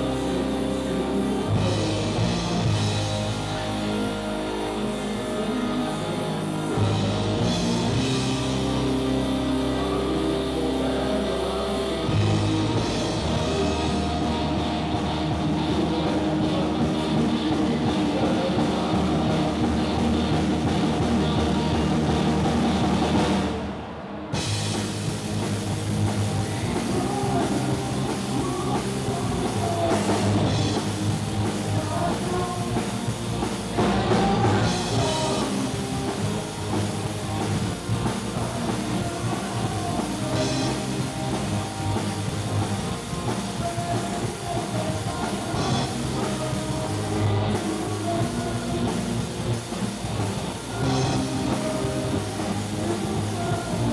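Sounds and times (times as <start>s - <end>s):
bass guitar: 0.0s - 53.9s
drum kit: 0.0s - 53.9s
electric guitars: 0.0s - 53.9s
keyboard: 0.0s - 53.9s
lead singer singing: 0.0s - 53.9s.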